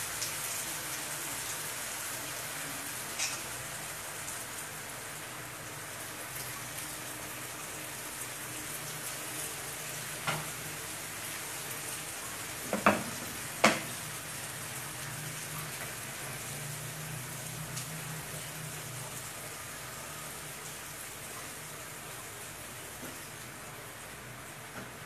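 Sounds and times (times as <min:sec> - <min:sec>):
curry sizzling in frying pan: 0:00.0 - 0:25.0.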